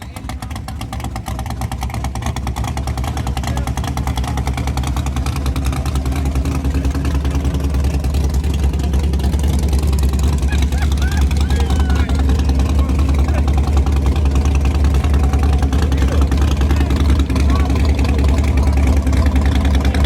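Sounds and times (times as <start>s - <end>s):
car engine pulsing: 0.0s - 20.0s.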